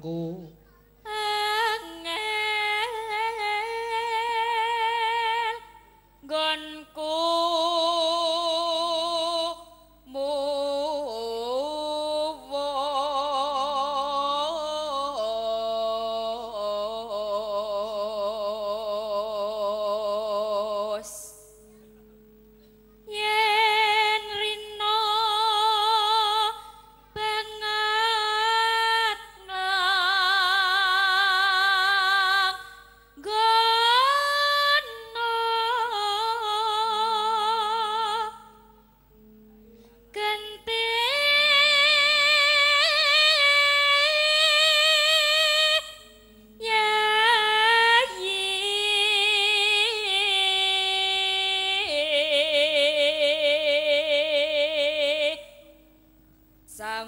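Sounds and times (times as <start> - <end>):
woman singing long wavering notes: 1.0 - 56.0, 56.7 - 57.0.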